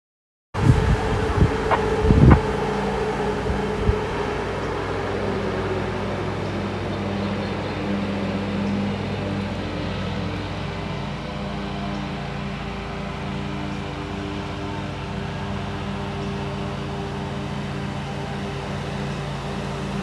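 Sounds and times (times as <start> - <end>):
diesel locomotive engine running: 0.6 - 20.0.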